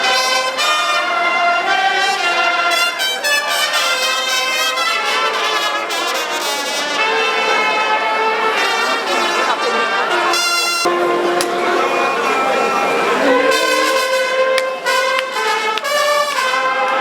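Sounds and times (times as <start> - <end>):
brass horns in harmony: 0.0 - 17.0.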